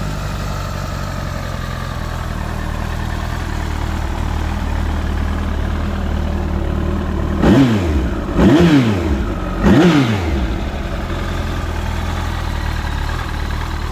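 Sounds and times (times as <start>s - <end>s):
motorcycle engine idling and revving: 0.0s - 13.9s.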